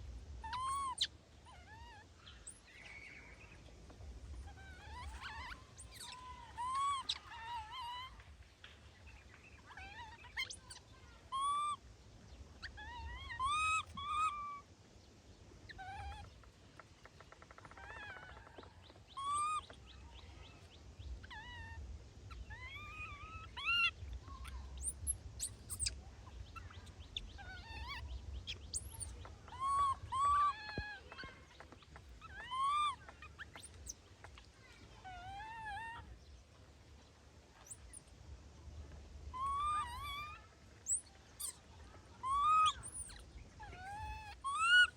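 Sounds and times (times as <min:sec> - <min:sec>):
low steady rumble: 0:00.0 - 0:44.9
baby monkeys squealing: 0:00.4 - 0:02.9, 0:04.3 - 0:08.3, 0:09.6 - 0:11.8, 0:12.6 - 0:14.7, 0:15.7 - 0:16.3, 0:17.6 - 0:36.4, 0:37.6 - 0:38.1, 0:39.3 - 0:44.9.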